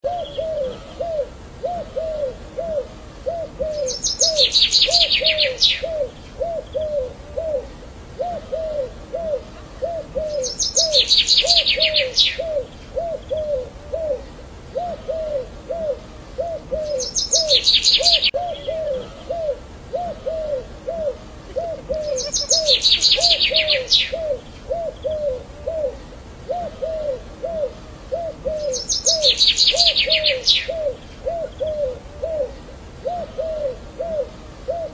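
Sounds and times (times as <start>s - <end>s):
short low bird calls: 0.0s - 34.9s.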